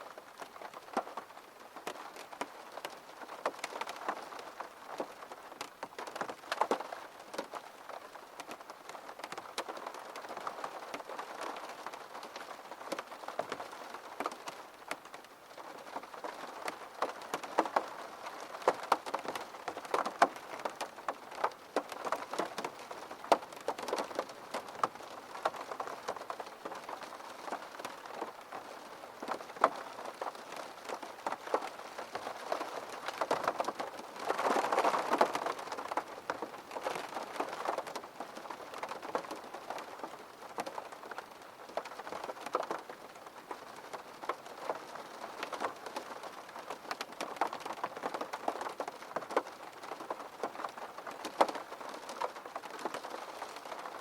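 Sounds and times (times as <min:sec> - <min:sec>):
rain pattering on hard surface: 0:00.0 - 0:54.0.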